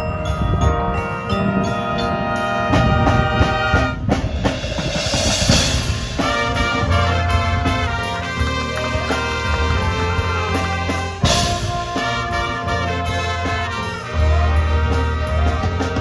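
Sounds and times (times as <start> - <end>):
brass chords: 0.0 - 16.0
drums and percussion: 0.0 - 16.0
percussion crash: 0.5 - 14.4.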